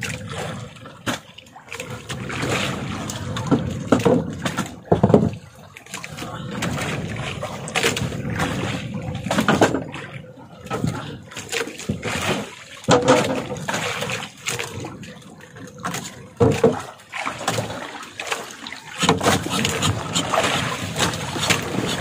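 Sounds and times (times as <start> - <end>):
water lapping against boat: 0.0 - 22.0.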